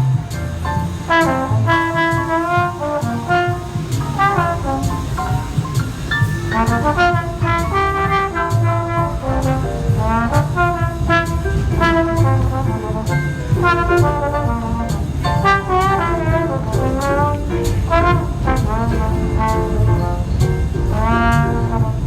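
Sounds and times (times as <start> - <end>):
beat and bass: 0.0 - 22.0
brass horn melody: 0.0 - 22.0.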